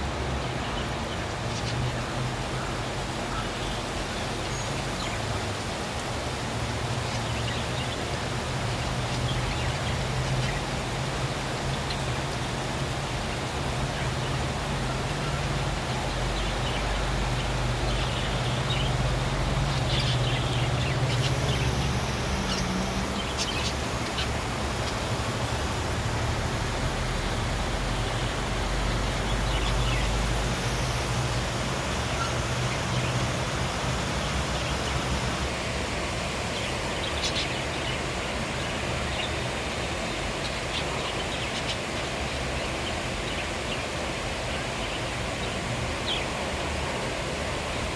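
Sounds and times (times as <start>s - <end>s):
heavy rain hissing: 0.0s - 47.9s.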